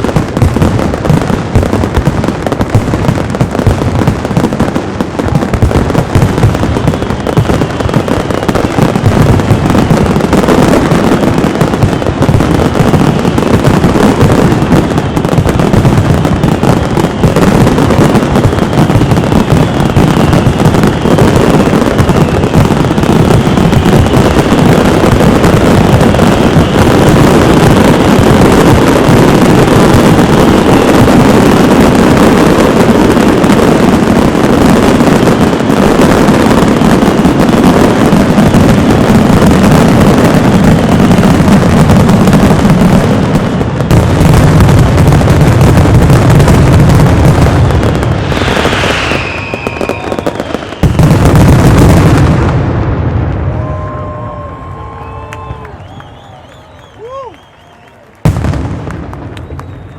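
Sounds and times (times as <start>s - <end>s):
fireworks whistles gliding down: 0.0s - 52.6s, 53.3s - 59.9s
fireworks bursting and crackling: 0.0s - 59.9s.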